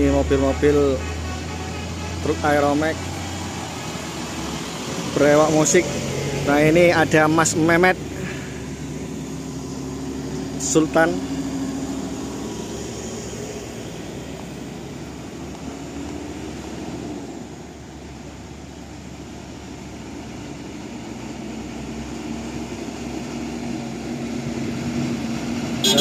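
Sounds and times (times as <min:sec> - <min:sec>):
truck engine droning: 0:00.0 - 0:26.0
van engine: 0:00.0 - 0:26.0.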